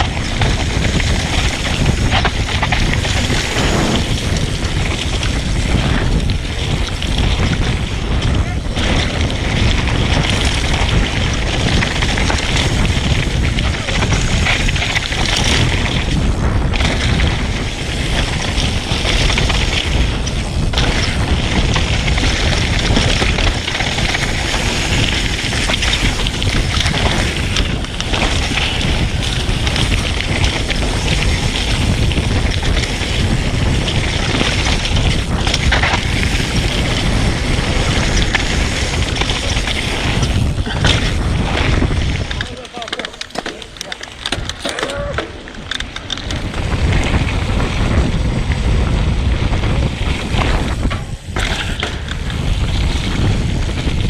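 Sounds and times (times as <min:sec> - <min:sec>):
bike tyres rumbling on dirt: 0:00.0 - 0:54.0
wind buffeting microphone: 0:00.0 - 0:54.0.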